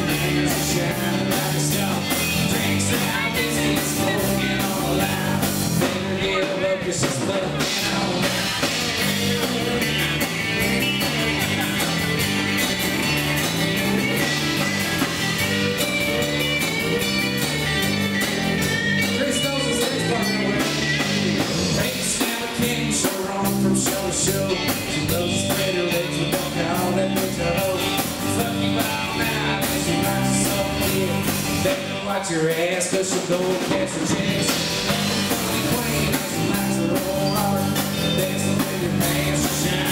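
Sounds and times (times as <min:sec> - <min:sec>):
electric guitar lead: 0:00.0 - 0:32.5, 0:33.2 - 0:39.9
bass guitar: 0:00.0 - 0:39.9
drum kit with cymbals: 0:00.0 - 0:39.9.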